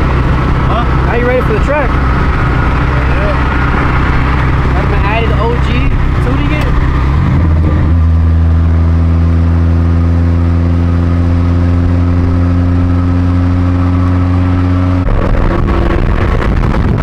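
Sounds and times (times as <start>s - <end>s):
car engine running steadily: 0.0s - 17.0s.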